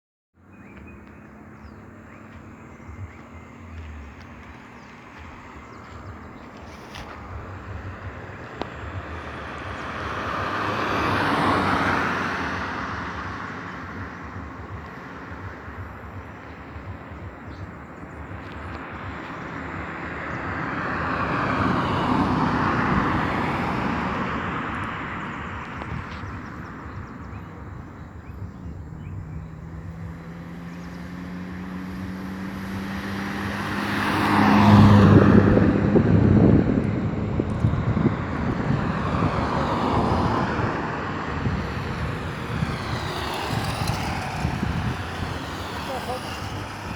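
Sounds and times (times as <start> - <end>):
road vehicles passing: 0.4 - 46.9.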